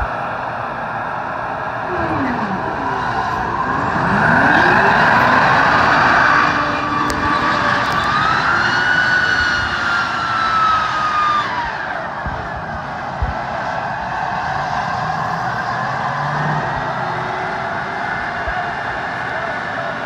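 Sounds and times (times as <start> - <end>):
tank turbine engine whining: 0.0 - 20.0.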